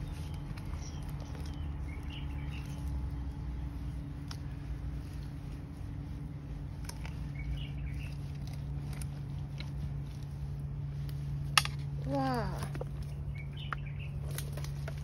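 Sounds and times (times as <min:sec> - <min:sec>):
clicks and scrapes in wet mud: 0:00.0 - 0:15.0
low hum: 0:00.0 - 0:15.0.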